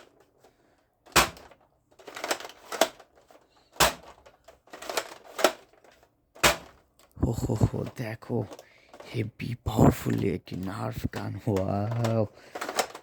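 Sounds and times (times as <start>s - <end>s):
plastic toy guns clicking: 0.0s - 9.1s, 10.1s - 13.0s
plastic rattling: 0.0s - 9.2s, 10.0s - 13.0s.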